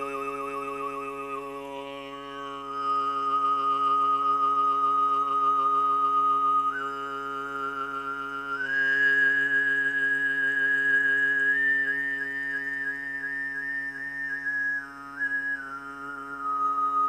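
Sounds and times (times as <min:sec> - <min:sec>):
man throat singing: 0:00.0 - 0:14.0.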